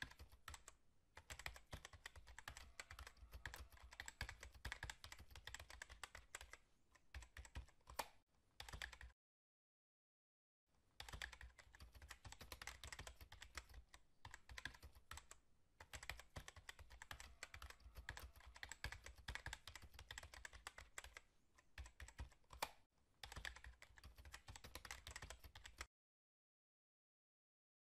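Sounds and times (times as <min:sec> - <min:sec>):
rapid keyboard typing: 0:00.0 - 0:09.2, 0:11.0 - 0:25.9.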